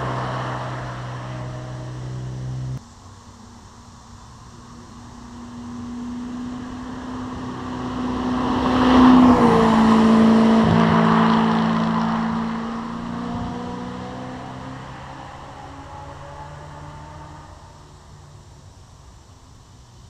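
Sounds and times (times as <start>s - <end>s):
sports car engine accelerating past: 0.0s - 2.8s, 4.5s - 18.4s.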